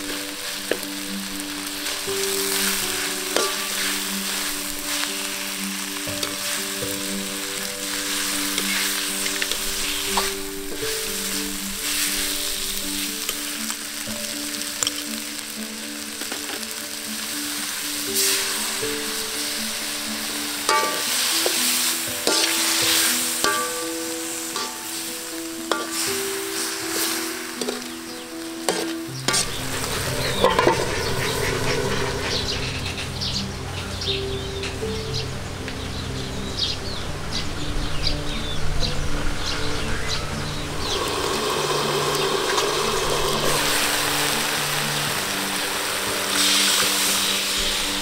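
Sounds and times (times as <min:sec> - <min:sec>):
food sizzling in hot pan: 0:00.0 - 0:34.5, 0:39.8 - 0:48.0
background music with melody: 0:00.0 - 0:48.0.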